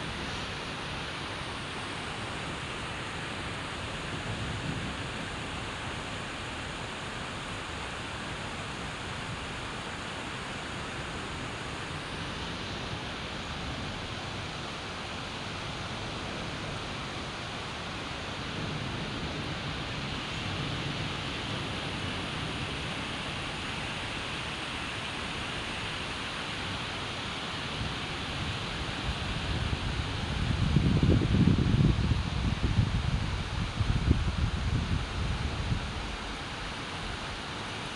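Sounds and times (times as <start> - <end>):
steady rain: 0.0 - 37.9.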